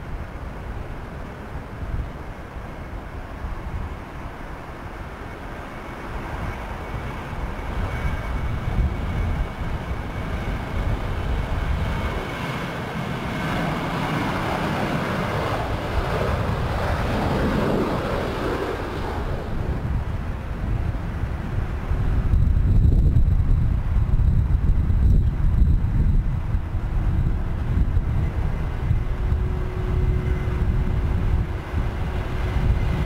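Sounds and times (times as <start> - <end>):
jet engines at takeoff: 0.0 - 33.0
thin steady whine: 0.0 - 33.0.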